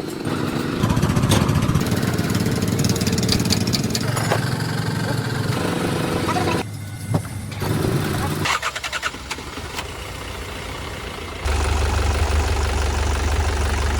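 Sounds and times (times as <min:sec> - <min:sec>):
engine running steadily: 0:00.0 - 0:13.9.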